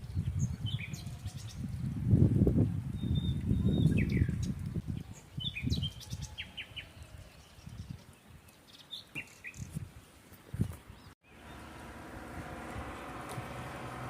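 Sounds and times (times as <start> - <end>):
birds chirping: 0.0 - 1.9, 2.9 - 14.0.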